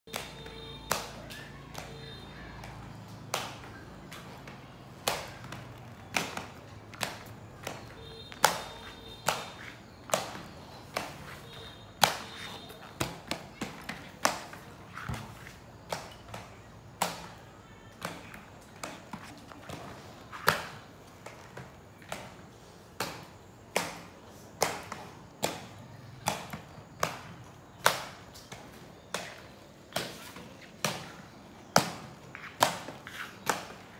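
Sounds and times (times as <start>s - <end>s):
skate wheels clacking on concrete: 0.1s - 33.9s.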